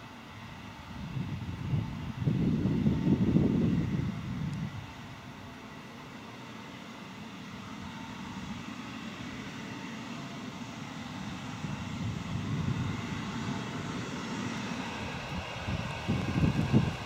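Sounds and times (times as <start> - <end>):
jet engines whining: 0.0 - 17.0
low engine rumble: 0.0 - 17.0.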